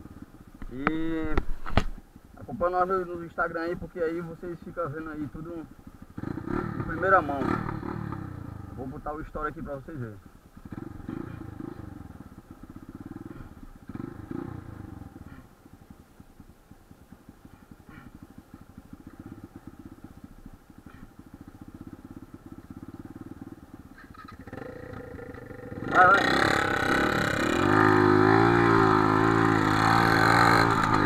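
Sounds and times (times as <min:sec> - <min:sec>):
motorcycle engine idling and revving: 0:00.0 - 0:31.0.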